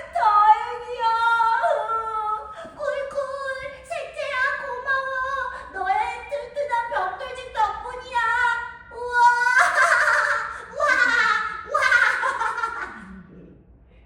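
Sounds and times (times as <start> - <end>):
woman singing unaccompanied: 0.0 - 12.6.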